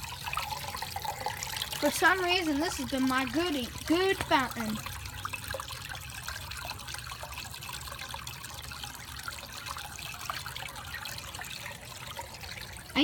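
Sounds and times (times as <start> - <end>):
fountain water trickling and splashing: 0.0 - 13.0.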